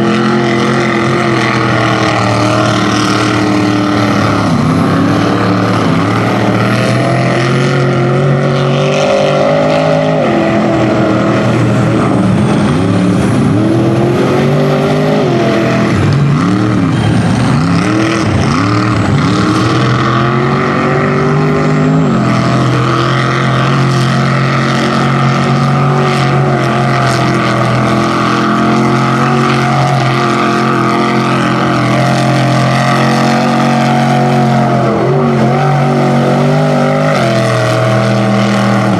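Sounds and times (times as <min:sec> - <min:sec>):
truck engine revving high: 0:00.0 - 0:38.9.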